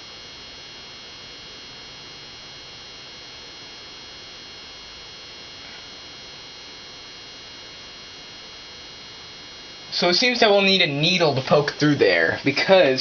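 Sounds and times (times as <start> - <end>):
electrical hiss: 0.0 - 13.0.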